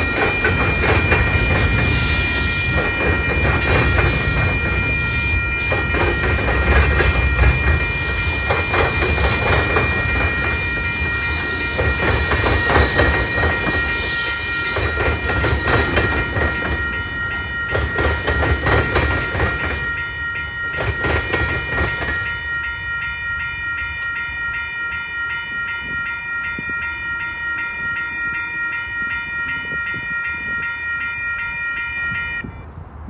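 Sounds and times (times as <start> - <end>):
railroad crossing bell ringing: 0.0 - 33.0.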